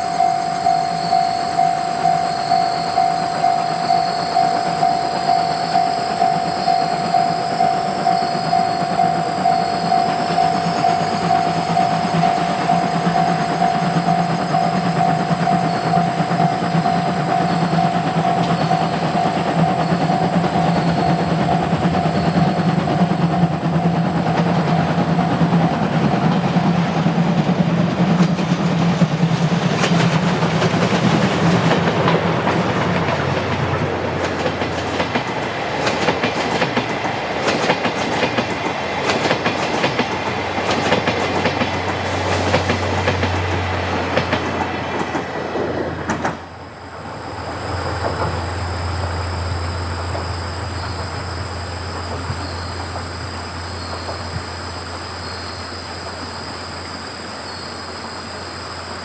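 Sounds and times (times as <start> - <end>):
train wheels clattering: 0.0 - 56.4.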